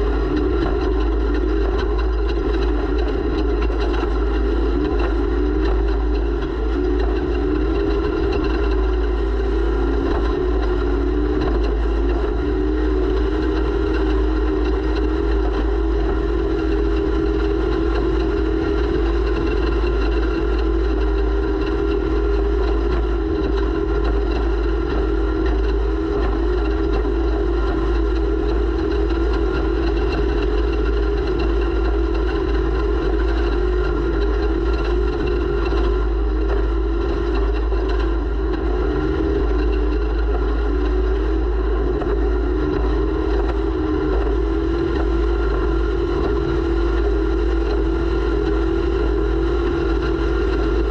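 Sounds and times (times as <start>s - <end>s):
race vehicle engine running hard: 0.0s - 50.9s
wind rumble on microphone: 0.0s - 50.9s.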